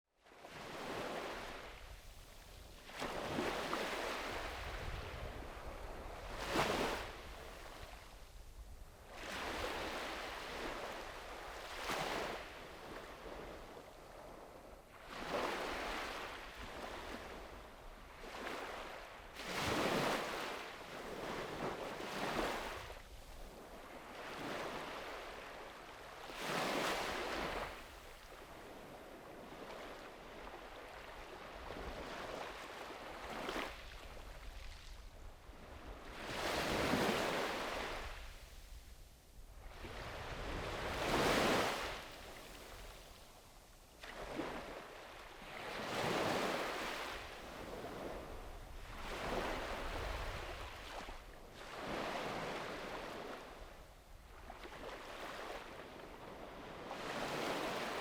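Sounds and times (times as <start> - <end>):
sea waves breaking on beach: 0.4 - 1.9, 2.8 - 8.0, 9.2 - 14.4, 15.0 - 38.6, 39.6 - 43.2, 44.0 - 58.0.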